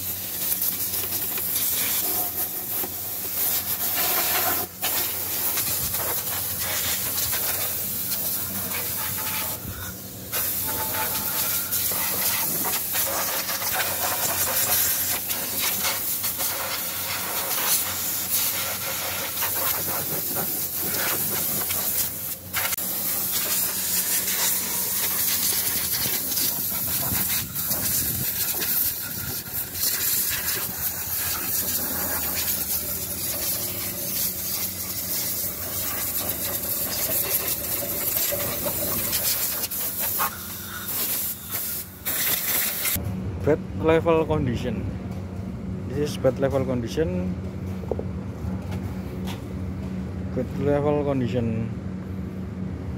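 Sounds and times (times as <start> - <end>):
compressed air blow gun hissing: 0.0 - 43.0.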